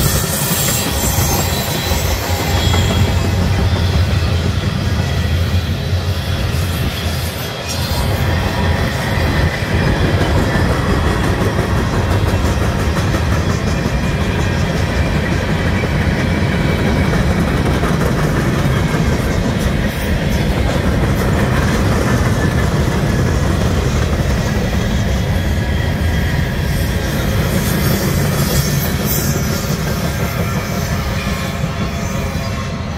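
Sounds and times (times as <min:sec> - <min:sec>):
freight train wheels rumbling on rail: 0:00.0 - 0:32.9.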